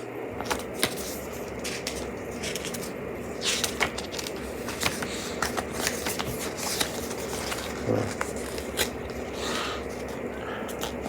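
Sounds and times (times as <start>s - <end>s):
low background hum: 0.0s - 11.0s
pages turning: 0.4s - 10.2s
paper rustling: 0.4s - 11.0s.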